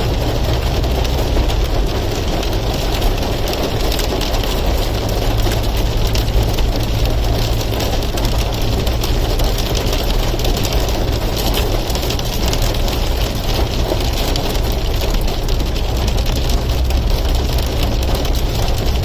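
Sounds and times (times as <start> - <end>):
hailstones pelting down: 0.0 - 19.0
low vehicle rumble: 0.0 - 19.0.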